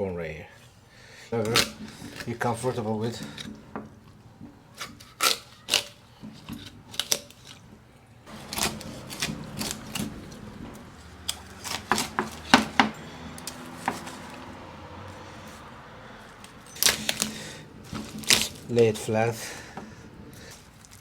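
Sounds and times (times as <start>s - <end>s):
bone crunching and snapping: 1.4s - 3.7s, 4.7s - 7.7s, 8.3s - 21.0s.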